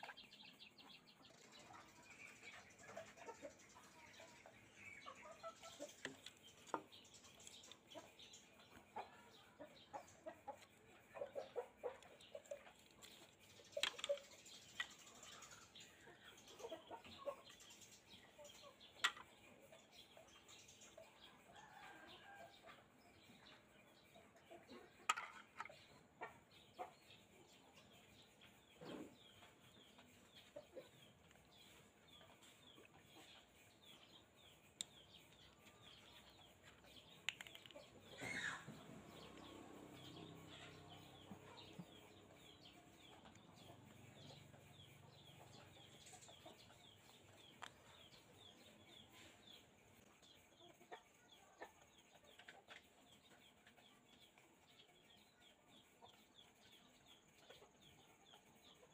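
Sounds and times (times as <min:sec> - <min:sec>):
faint chickens clucking: 0:00.0 - 0:58.9.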